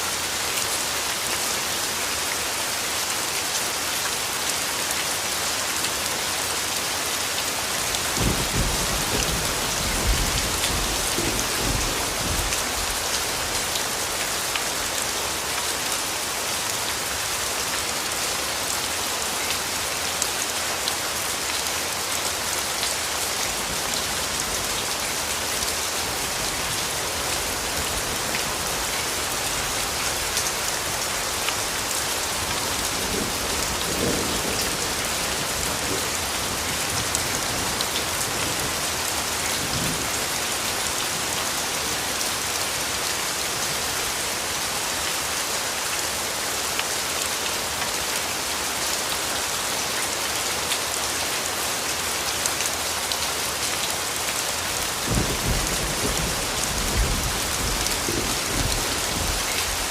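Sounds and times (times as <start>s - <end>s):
rain pattering on foliage: 0.0s - 59.9s.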